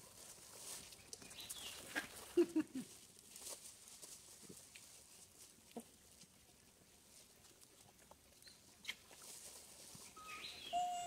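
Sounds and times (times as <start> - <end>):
faint clicks and rustles: 0.0 - 10.2.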